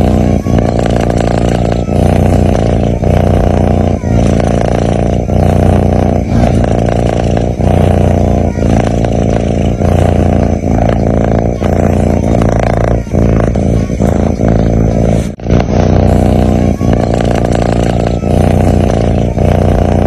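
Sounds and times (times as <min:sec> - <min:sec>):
cat snoring: 0:00.0 - 0:20.0.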